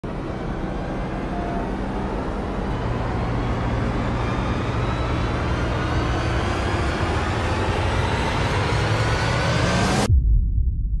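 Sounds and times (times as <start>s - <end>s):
light aircraft engine drone: 0.0s - 10.1s.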